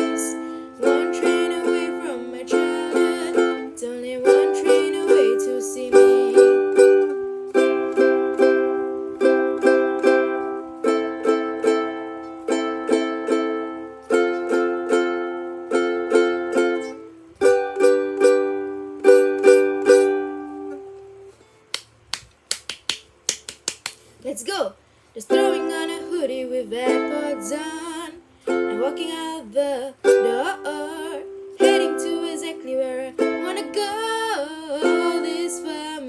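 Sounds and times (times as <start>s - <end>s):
ukulele strumming chords: 0.0s - 22.1s, 25.3s - 36.0s.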